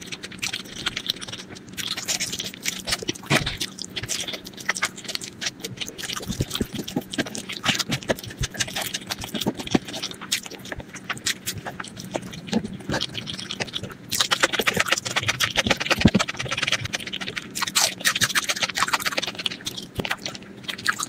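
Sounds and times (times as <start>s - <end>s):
wet chewing clicks and smacks: 0.0s - 21.0s.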